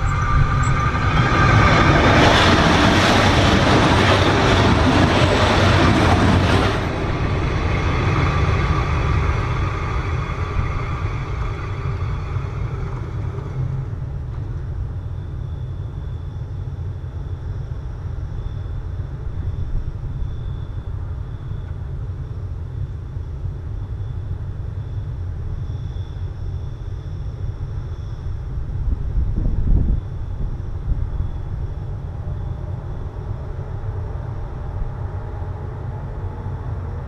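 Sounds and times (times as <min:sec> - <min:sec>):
train rumbling and rattling overhead: 0:00.0 - 0:37.0.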